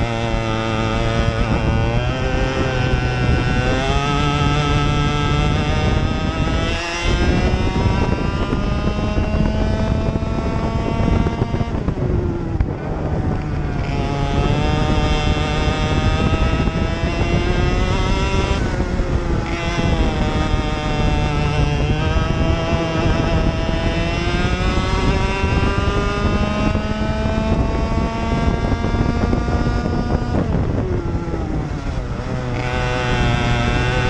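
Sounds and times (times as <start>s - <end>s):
kart engine at full throttle: 0.0s - 34.0s.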